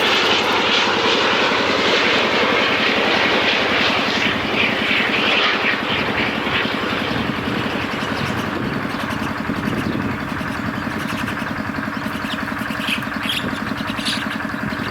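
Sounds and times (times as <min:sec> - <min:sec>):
engine idling: 0:00.0 - 0:14.9
passing aircraft hiss: 0:00.0 - 0:14.9.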